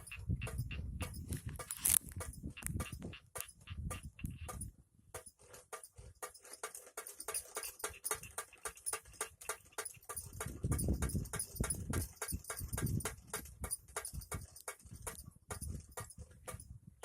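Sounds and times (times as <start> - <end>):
bird-scaring device clacking: 0.0 - 16.6.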